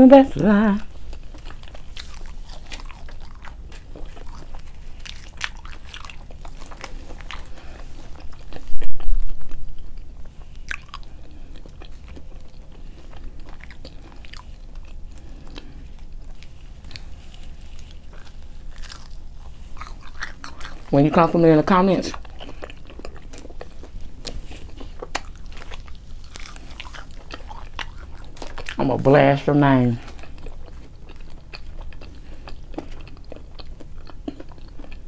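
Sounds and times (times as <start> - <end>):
chewing and crunching food: 0.2 - 35.0.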